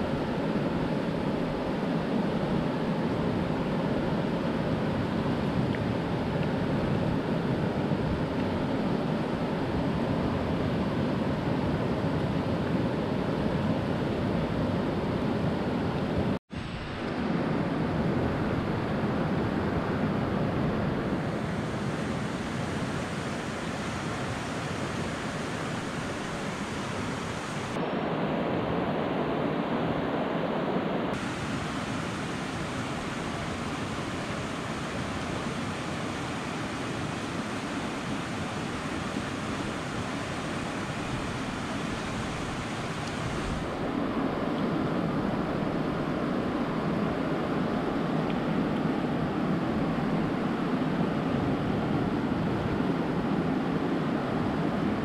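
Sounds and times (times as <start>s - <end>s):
stream rushing: 0.0s - 55.0s.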